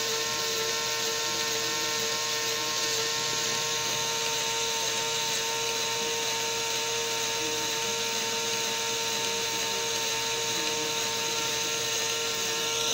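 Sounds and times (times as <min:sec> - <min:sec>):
small electric motor whining: 0:00.0 - 0:12.9.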